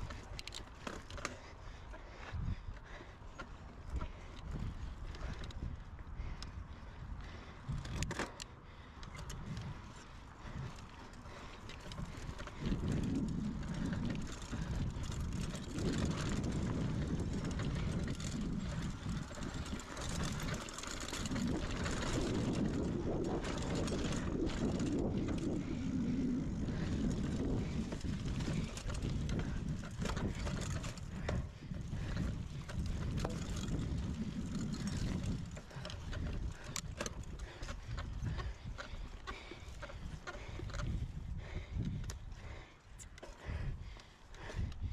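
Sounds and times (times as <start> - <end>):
bike rattling and clicking: 0.0 - 44.9
wind and tyre rumble: 0.0 - 44.9.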